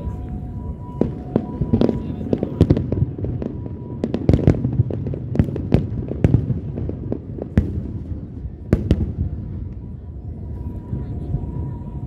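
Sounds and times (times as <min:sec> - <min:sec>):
fireworks bangs and cracks: 0:00.0 - 0:12.0
low rumble of fireworks: 0:00.0 - 0:12.0.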